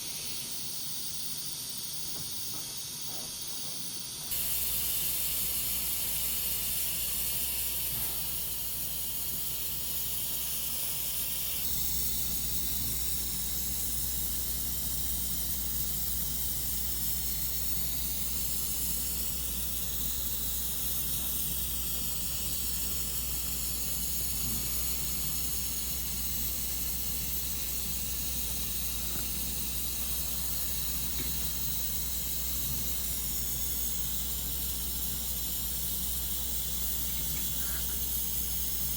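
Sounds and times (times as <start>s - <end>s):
steady hiss: 4.1s - 38.9s.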